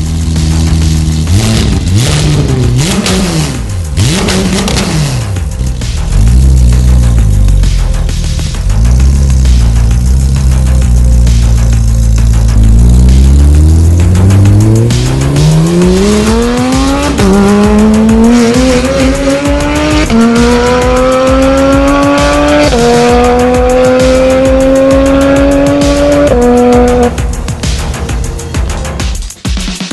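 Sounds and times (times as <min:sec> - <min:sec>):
car engine accelerating with upshifts: 0:00.0 - 0:28.7.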